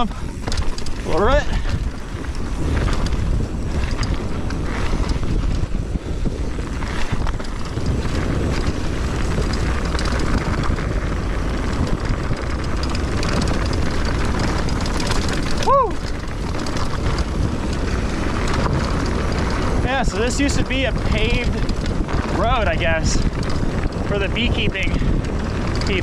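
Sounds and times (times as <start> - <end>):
bike rattling over bumps: 0.0 - 26.0
bike tyre noise: 0.0 - 26.0
wind rushing over microphone: 0.0 - 26.0.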